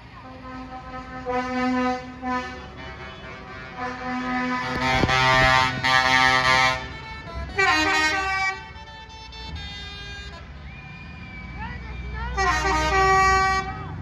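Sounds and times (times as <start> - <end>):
low engine rumble: 0.0 - 14.0
lorry air horn blasts: 0.2 - 10.6, 12.4 - 13.7.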